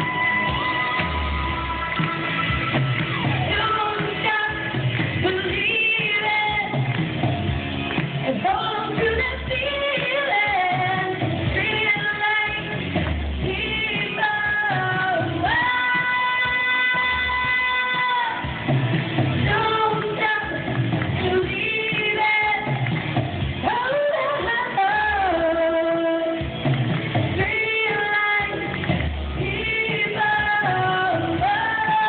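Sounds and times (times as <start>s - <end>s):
woman singing into a microphone: 0.0s - 7.0s, 8.2s - 18.8s, 19.4s - 26.6s, 27.3s - 32.0s
guitar backing music: 0.0s - 32.0s.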